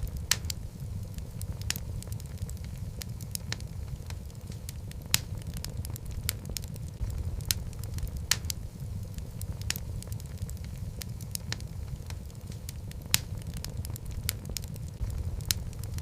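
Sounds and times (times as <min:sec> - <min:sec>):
fire rumbling: 0:00.0 - 0:16.0
wood crackling and popping: 0:00.0 - 0:16.0.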